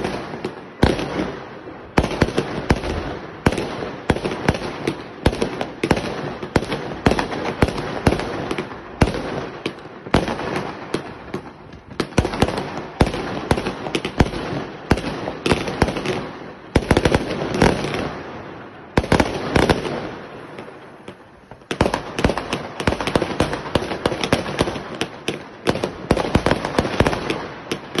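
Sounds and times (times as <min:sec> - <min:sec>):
firework bangs: 0:00.0 - 0:28.0.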